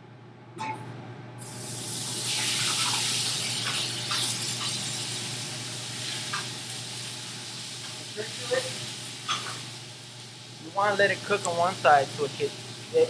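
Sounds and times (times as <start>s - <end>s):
beef sizzling in hot oil: 1.4s - 13.0s.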